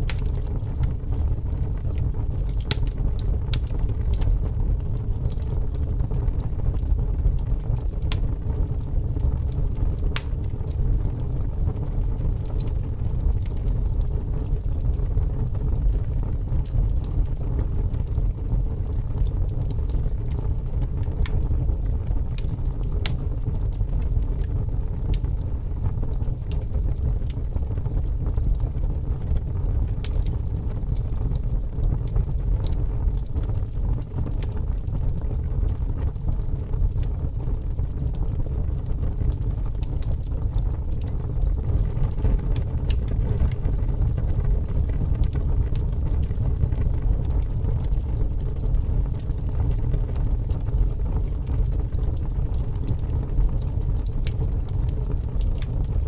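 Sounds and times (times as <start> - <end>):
fire crackling and popping: 0.0 - 56.0
flames rumbling: 0.0 - 56.0.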